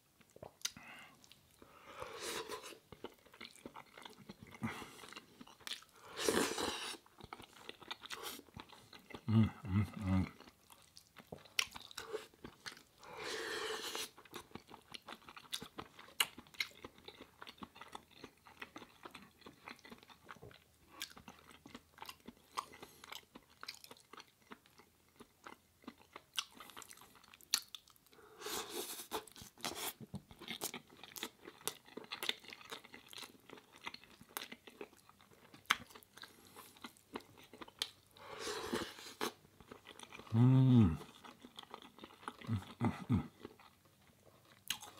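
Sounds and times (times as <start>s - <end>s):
person chewing food: 0.2s - 44.9s.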